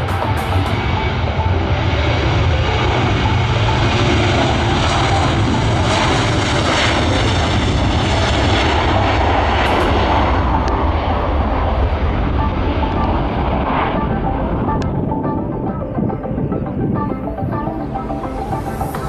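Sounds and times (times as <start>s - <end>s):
aircraft engines passing: 0.0s - 19.0s.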